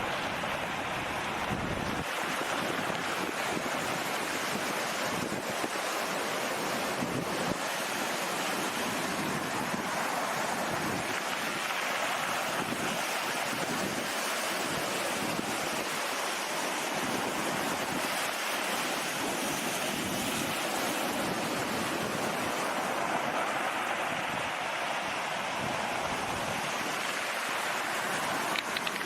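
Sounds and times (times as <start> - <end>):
sea waves: 0.0 - 29.0
wind: 0.0 - 29.0.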